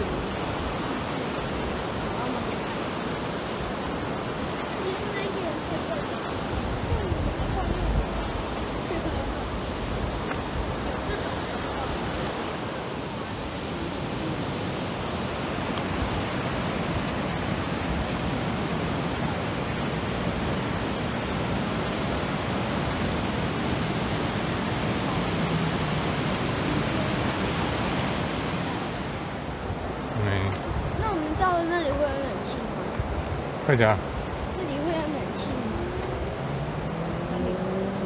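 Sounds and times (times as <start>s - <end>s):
river rushing over rapids: 0.0s - 38.0s.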